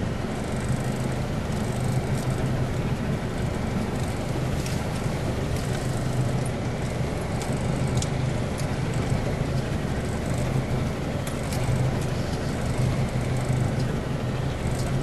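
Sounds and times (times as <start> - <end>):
low engine hum: 0.0 - 15.0
sharp rattles and knocks: 0.6 - 15.0.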